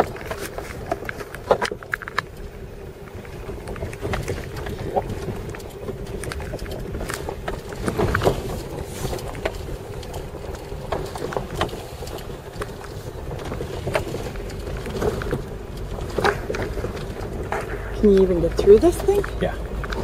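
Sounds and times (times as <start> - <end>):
knocks and rattles over bumps: 0.0 - 20.0
vehicle engine rumbling: 0.0 - 20.0.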